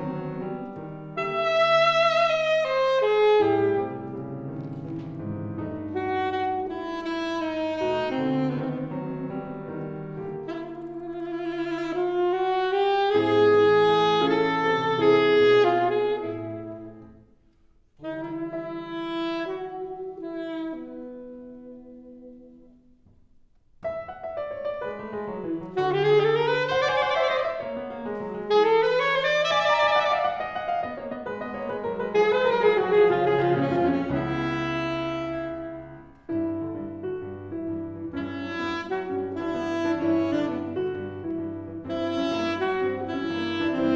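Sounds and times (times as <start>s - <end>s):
wind instrument and piano chamber music: 0.0s - 23.0s, 23.8s - 43.9s.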